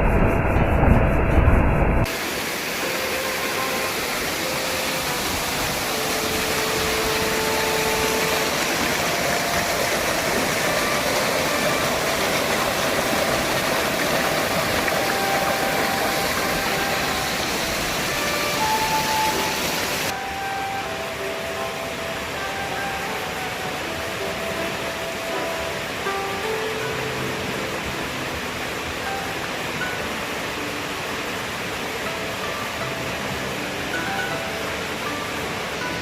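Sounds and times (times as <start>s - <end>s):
waterfall rushing: 2.1s - 36.0s.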